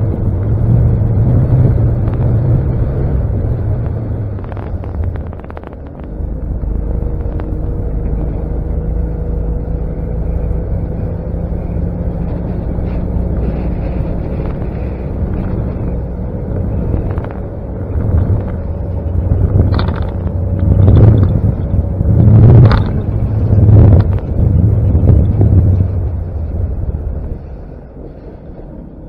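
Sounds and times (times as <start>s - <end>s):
motorboat engine drone: 0.0s - 29.0s.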